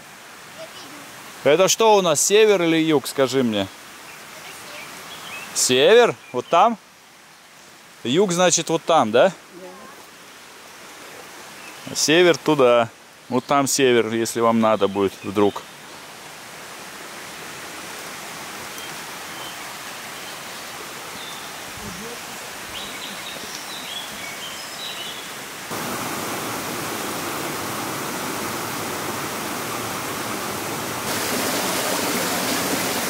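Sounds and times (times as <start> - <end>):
mountain stream rushing: 0.0 - 33.0.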